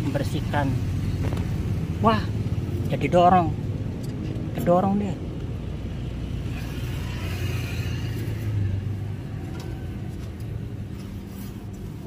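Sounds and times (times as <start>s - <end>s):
road traffic engine rumble: 0.0s - 12.0s.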